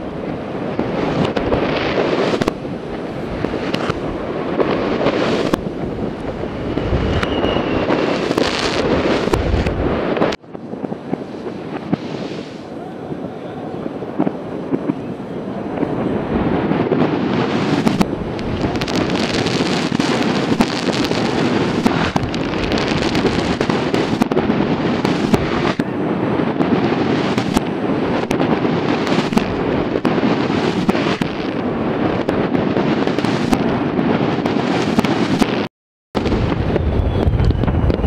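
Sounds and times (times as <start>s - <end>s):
fireworks crackling and banging: 0.0s - 38.0s.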